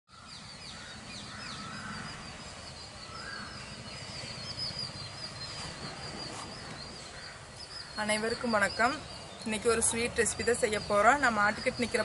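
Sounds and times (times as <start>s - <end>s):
rising and falling bird calls: 0.1s - 10.5s
birds chirping: 0.1s - 12.0s.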